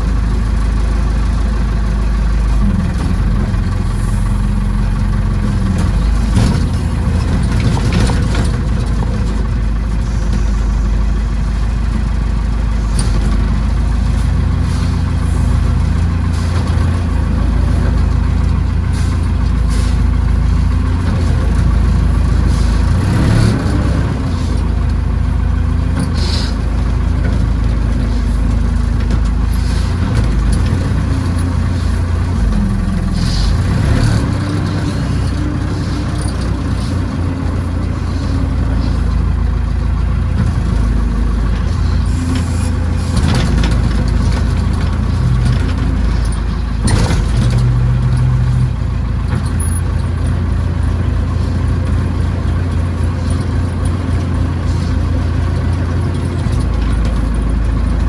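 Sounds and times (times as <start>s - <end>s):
tractor backhoe engine running: 0.0s - 58.0s.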